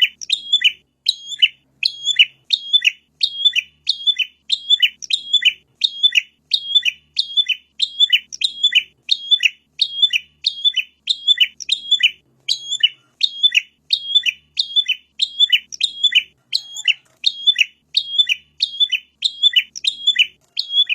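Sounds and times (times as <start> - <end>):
bird sharp chirps: 0.0 - 20.9.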